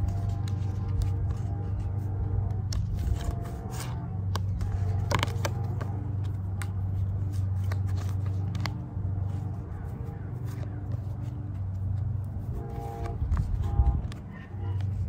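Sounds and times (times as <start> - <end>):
cards sliding and clicking: 0.0 - 15.0
steady low hum: 0.0 - 15.0.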